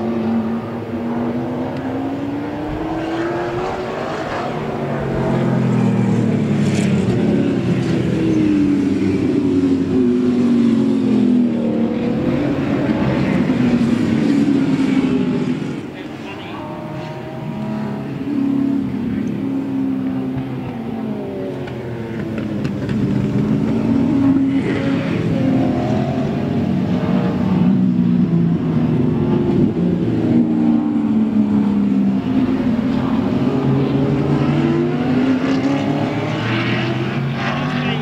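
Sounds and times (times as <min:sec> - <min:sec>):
racing cars passing: 0:00.0 - 0:38.0.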